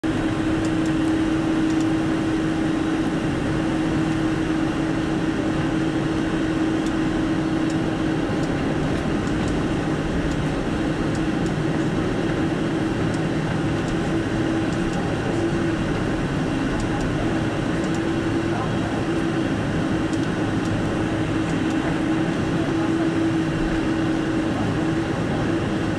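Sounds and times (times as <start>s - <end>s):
jet engines and cabin air hum: 0.0s - 25.9s.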